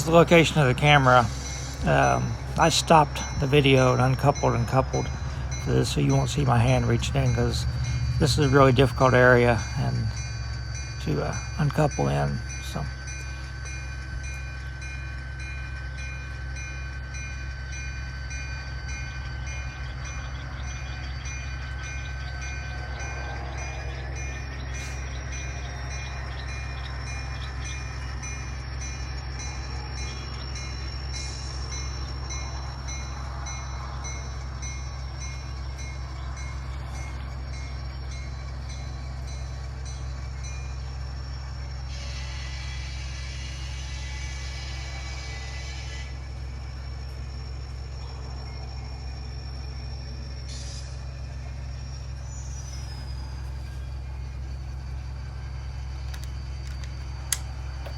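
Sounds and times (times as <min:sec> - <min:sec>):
model locomotive engine rumble: 0:00.0 - 0:57.9
whining tones: 0:00.0 - 0:57.9.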